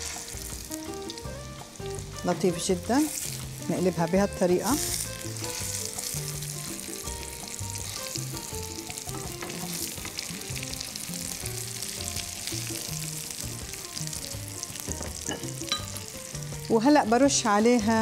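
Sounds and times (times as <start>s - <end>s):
spatulas turning food in pan: 0.0s - 16.7s
patties sizzling in butter: 0.0s - 18.0s
soft background music: 0.0s - 18.0s.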